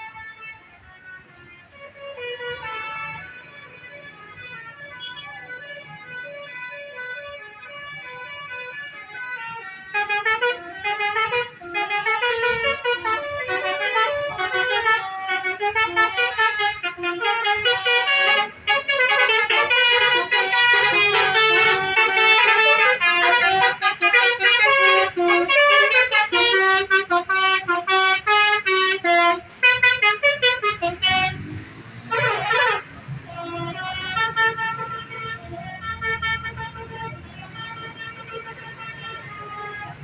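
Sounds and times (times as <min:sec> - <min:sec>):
bus horn playing a tune: 0:00.0 - 0:40.0.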